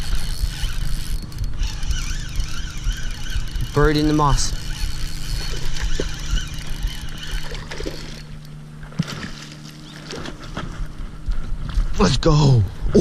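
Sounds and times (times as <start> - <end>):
wind rumble on microphone: 0.0 - 8.1, 10.0 - 13.0
low mechanical hum: 0.0 - 13.0.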